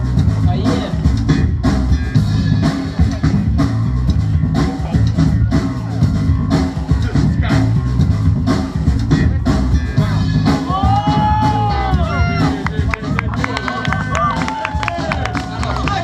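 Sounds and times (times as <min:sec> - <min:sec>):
loud music with heavy drum beat: 0:00.0 - 0:16.0.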